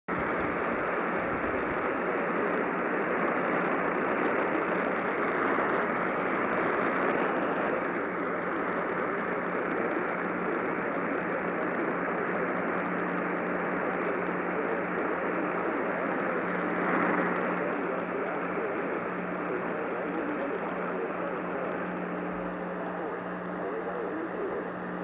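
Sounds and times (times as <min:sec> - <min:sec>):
radio static hiss: 0:00.1 - 0:25.0
steady low hum: 0:00.1 - 0:25.0.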